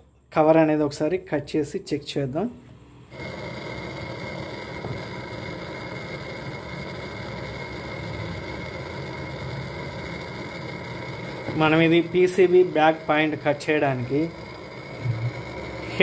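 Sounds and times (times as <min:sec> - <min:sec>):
blowtorch hissing: 0:03.1 - 0:16.0.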